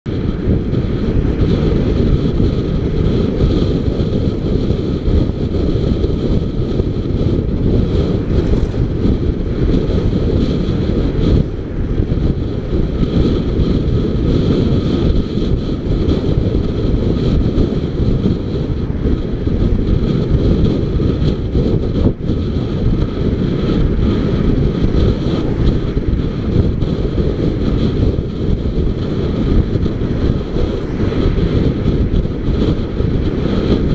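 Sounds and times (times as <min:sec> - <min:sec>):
road noise: 0:00.0 - 0:33.9
wind rushing over microphone: 0:00.0 - 0:33.9
motorcycle engine: 0:00.1 - 0:33.9.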